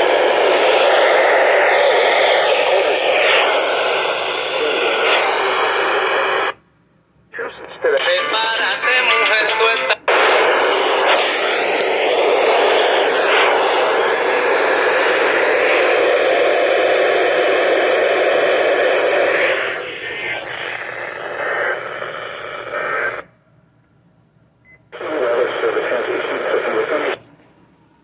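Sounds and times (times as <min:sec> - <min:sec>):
radio static hiss: 0:00.0 - 0:06.6, 0:07.3 - 0:23.3, 0:24.9 - 0:27.3.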